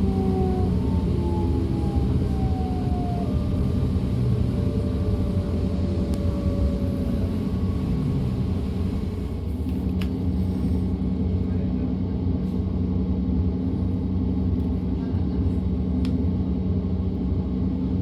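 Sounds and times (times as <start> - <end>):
traction drive whine: 0.0 - 18.0
train rumbling on track: 0.0 - 18.0.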